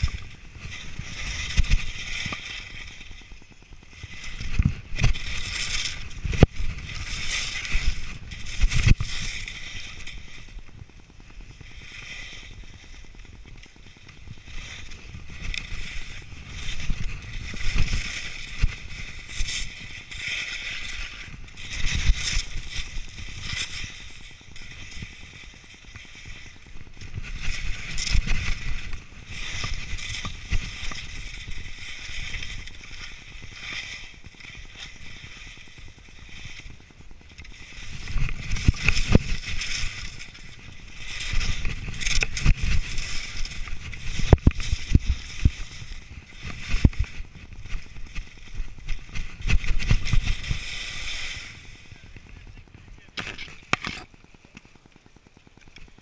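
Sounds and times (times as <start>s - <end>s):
skis scraping over snow: 0.0s - 56.0s.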